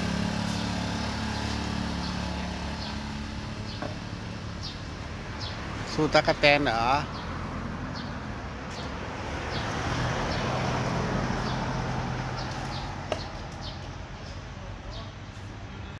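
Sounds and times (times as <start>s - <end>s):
vehicle passing: 0.0s - 14.4s.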